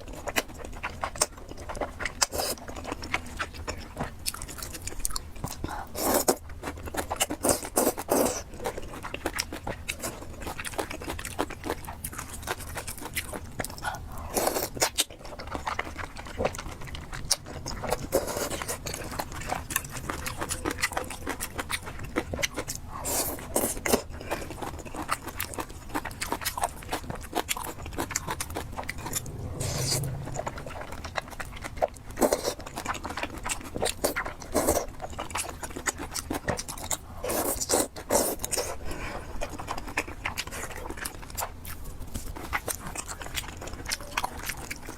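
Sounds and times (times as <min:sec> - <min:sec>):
person chewing and biting: 0:00.2 - 0:38.8.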